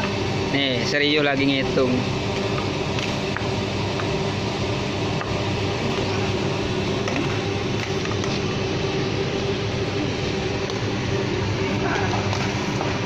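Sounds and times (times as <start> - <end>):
printing machine humming: 0.0 - 13.0.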